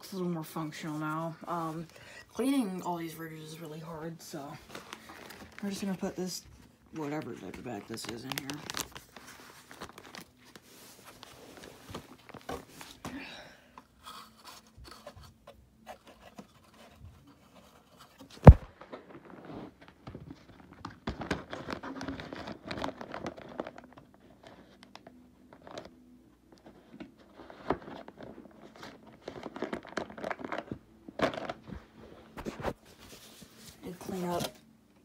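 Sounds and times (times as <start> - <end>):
scraping and crinkling handling: 0.1 - 13.2, 13.8 - 35.0.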